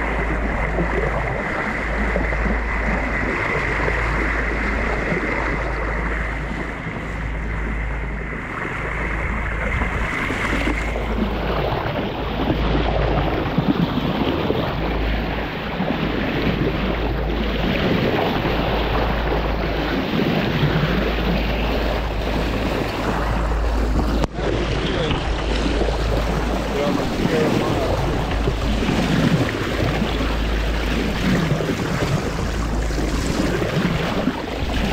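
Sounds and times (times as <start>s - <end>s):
water rushing along boat hull: 0.0s - 34.9s
wind buffeting microphone: 0.0s - 34.9s.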